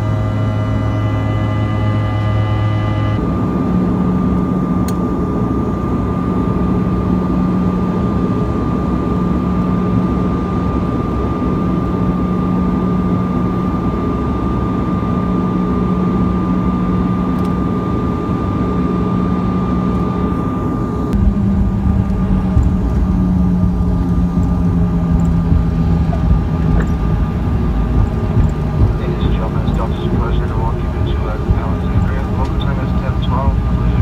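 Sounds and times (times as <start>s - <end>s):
airliner cabin engine rush: 0.0s - 34.0s
constant low hum: 0.0s - 34.0s.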